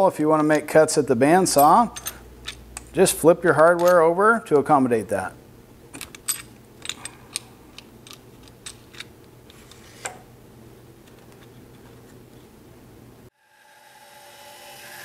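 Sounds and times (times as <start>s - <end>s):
low steady hum: 0.0s - 13.3s.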